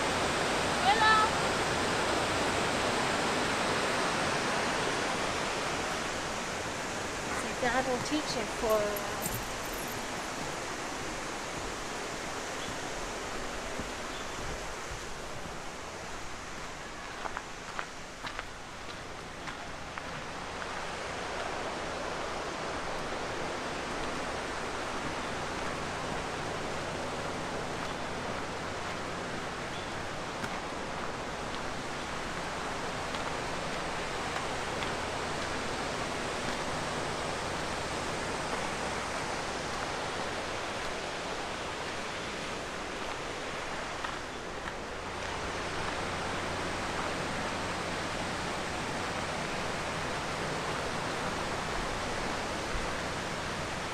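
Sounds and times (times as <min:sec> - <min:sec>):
river water rushing over rapids: 0:00.0 - 0:53.9.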